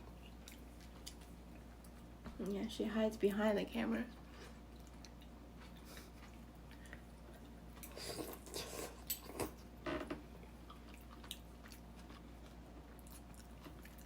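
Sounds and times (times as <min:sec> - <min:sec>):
faint chewing: 0:00.1 - 0:02.6, 0:04.0 - 0:09.7, 0:10.4 - 0:14.0.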